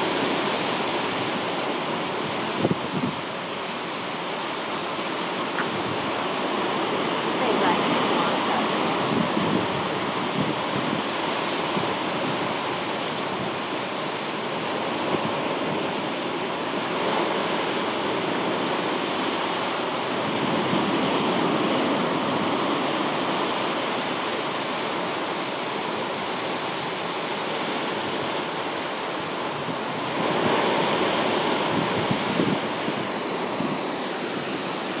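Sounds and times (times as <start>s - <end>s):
surf breaking against rocks: 0.0s - 35.0s.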